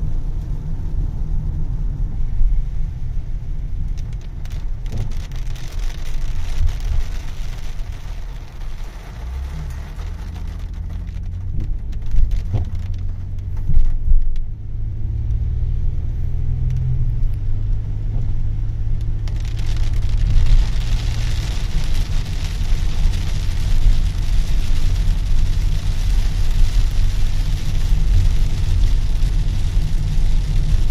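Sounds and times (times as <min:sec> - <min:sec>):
road and engine rumble: 0:00.0 - 0:30.9
rain hiss: 0:00.2 - 0:13.7, 0:18.3 - 0:30.9.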